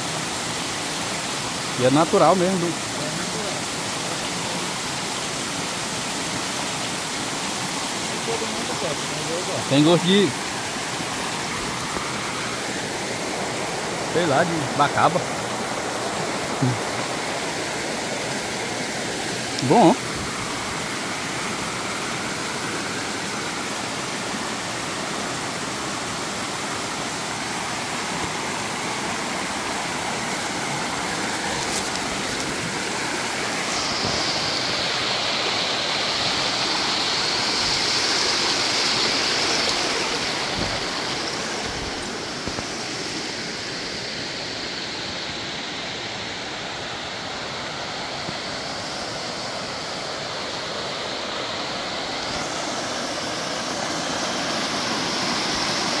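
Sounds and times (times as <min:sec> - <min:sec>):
high hiss: 0:00.0 - 0:56.0
waterfall rushing: 0:00.0 - 0:56.0.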